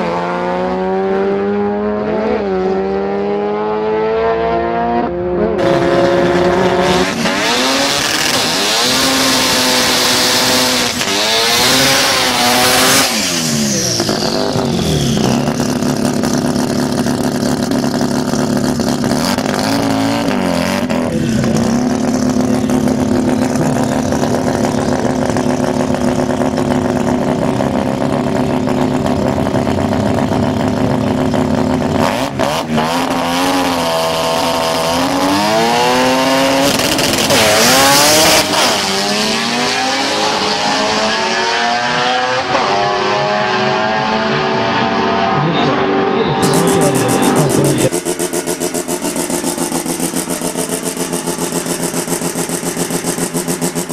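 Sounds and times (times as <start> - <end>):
rotary car engine revving: 0.0 - 53.9.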